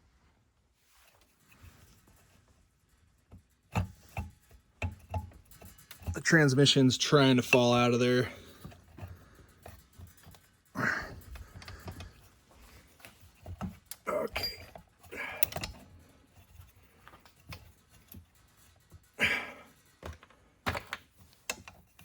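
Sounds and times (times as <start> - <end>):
metal engine parts clicking: 2.8 - 22.0.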